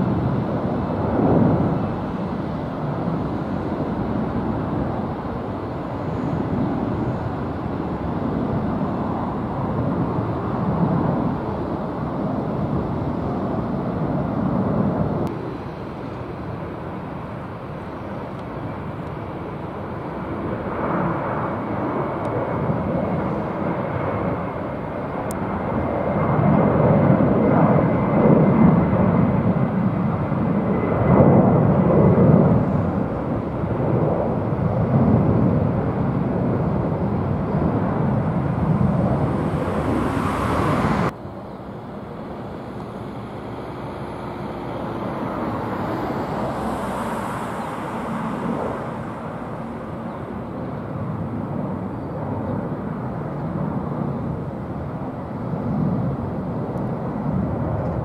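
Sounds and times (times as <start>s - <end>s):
jet engine rumble: 0.0s - 58.0s.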